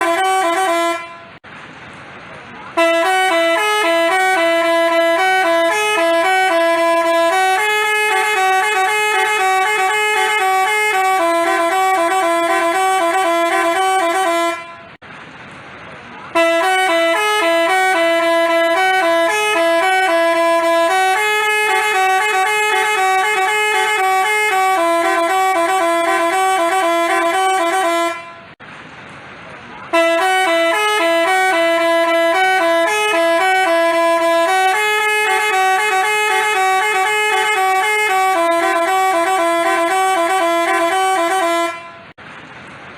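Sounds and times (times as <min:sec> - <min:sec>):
multi-tone horn playing a tune: 0:00.0 - 0:01.4, 0:02.8 - 0:15.0, 0:16.3 - 0:28.6, 0:29.9 - 0:42.1.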